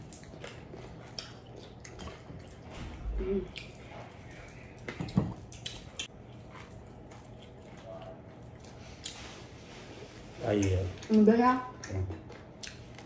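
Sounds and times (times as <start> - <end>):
wet chewing and lip smacking: 0.0 - 9.4, 10.5 - 13.0
food squishing and clicks: 0.0 - 13.0.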